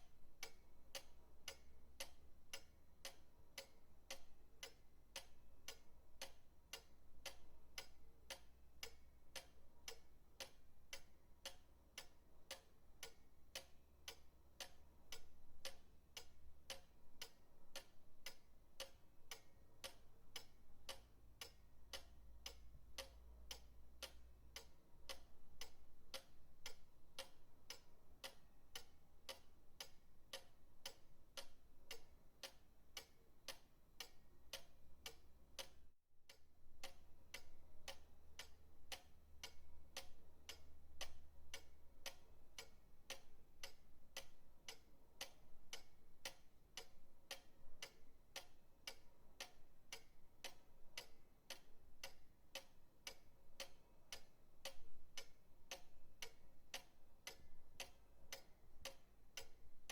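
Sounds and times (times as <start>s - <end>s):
pendulum clock ticking: 0.0s - 59.9s.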